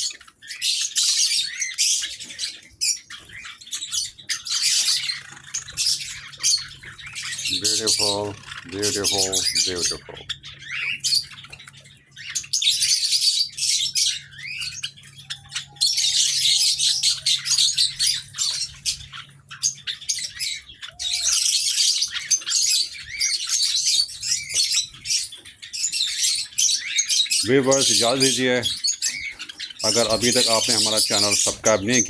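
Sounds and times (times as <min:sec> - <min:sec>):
sparrows chirping: 0:00.0 - 0:32.0.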